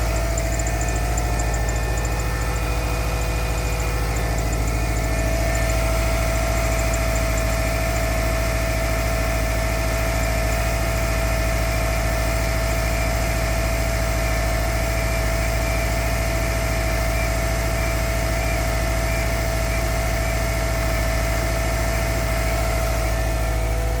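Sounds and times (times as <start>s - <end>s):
car engine idling with knock: 0.0s - 24.0s
steady high whine: 0.0s - 24.0s.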